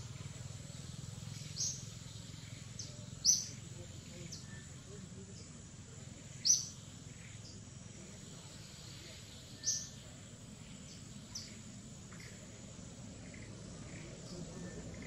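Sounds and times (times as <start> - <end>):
high insect hiss: 0.0 - 15.0.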